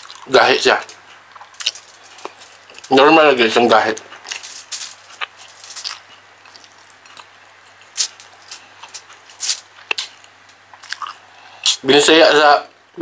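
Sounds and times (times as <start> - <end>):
chewing: 0.0 - 2.9, 3.9 - 11.8.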